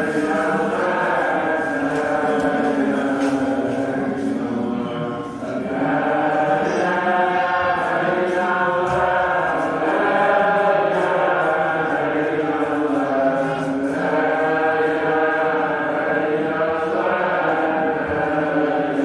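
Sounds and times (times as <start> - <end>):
voices chanting: 0.0 - 19.0.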